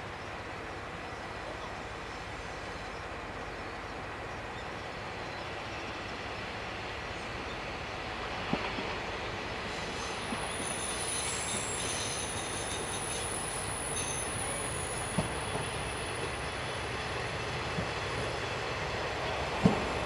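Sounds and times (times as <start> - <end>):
train rail and engine rumble: 0.0 - 20.0
train wheels squealing on rails: 0.8 - 20.0.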